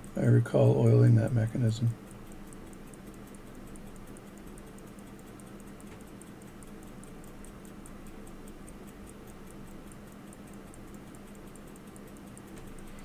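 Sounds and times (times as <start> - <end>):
pocket watch ticking: 0.0 - 13.0.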